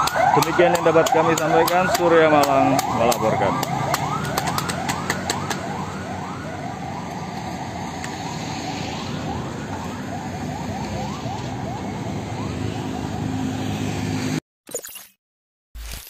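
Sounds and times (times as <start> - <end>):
siren yelping: 0.0 - 13.3
street traffic noise: 0.0 - 14.4.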